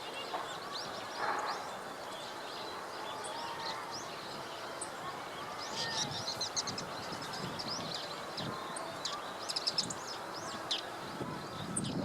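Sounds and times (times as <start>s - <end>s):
birds giving high chirping calls: 0.0s - 12.0s
outdoor background hiss: 0.0s - 12.0s.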